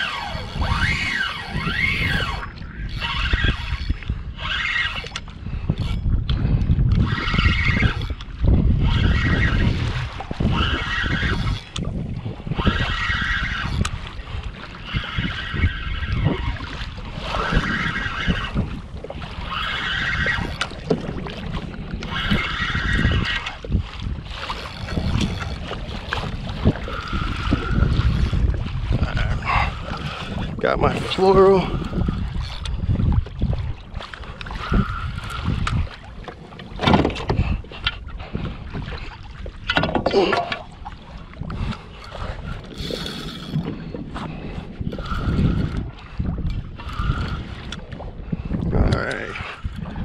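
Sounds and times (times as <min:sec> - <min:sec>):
water washing along kayak hull: 0:00.0 - 0:50.0
wind buffeting microphone: 0:00.0 - 0:50.0.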